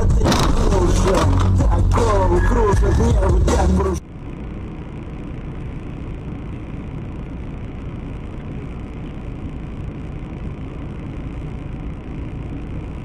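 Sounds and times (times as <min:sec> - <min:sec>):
moving car engine and tyres: 0:00.0 - 0:13.0.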